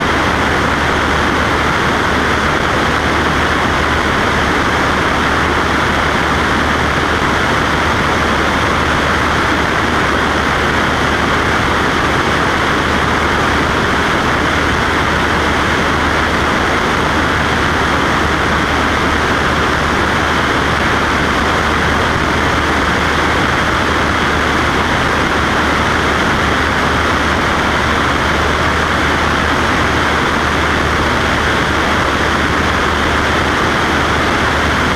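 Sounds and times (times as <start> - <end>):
propeller plane engine drone: 0.0 - 34.9.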